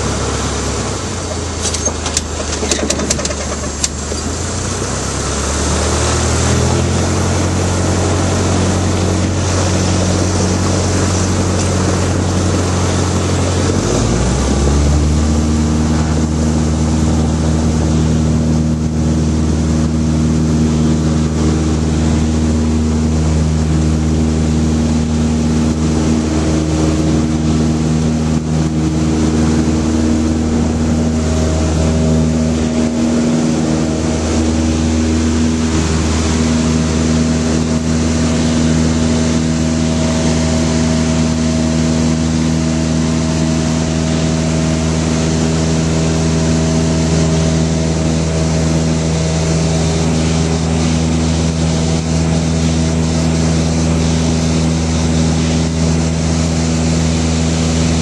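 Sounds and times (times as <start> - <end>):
light aircraft engine and propeller: 0.0 - 58.0
rushing air noise: 0.0 - 58.0.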